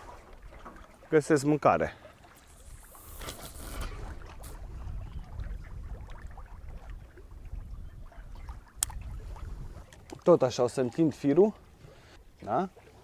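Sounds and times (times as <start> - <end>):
wind and water against boat hull: 0.0 - 13.0.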